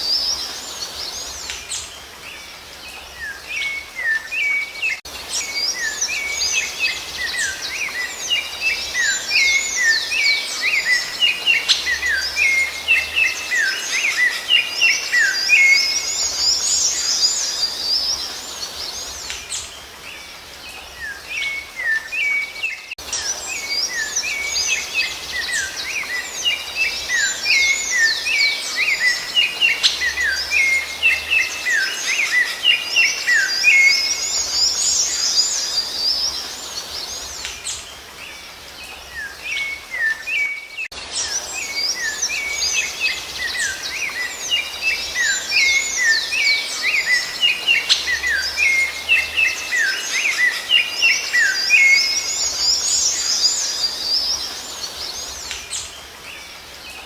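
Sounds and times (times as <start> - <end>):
thrush singing whistled notes: 0.0 - 57.0.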